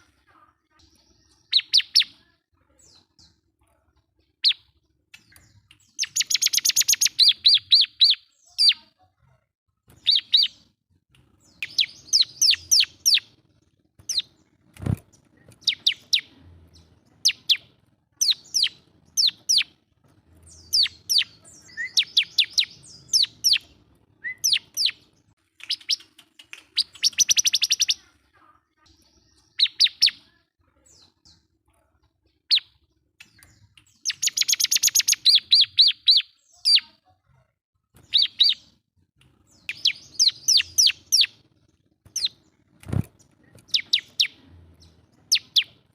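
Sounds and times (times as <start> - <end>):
bird song with chirps and trills: 0.0 - 45.9.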